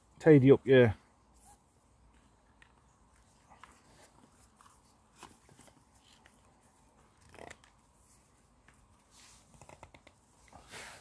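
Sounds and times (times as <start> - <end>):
nylon cord rustling and scraping: 1.3 - 11.0.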